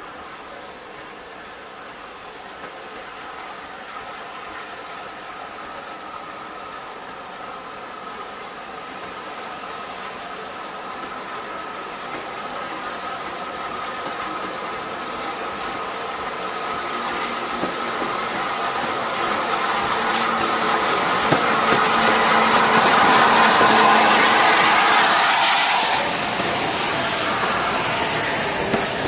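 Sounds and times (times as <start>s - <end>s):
steam hissing: 0.0s - 29.0s
train rumble and rail noise: 0.0s - 29.0s.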